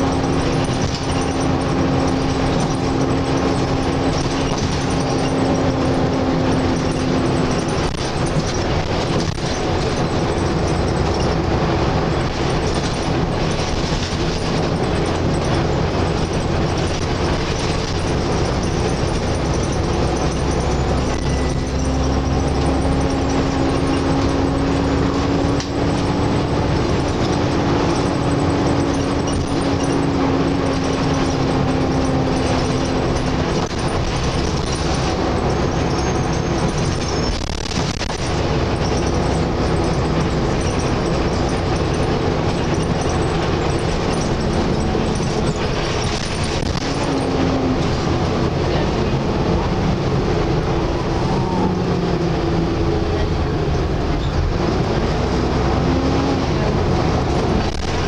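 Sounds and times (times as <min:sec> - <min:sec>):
bus diesel engine droning: 0:00.0 - 0:58.0
road noise: 0:00.0 - 0:58.0.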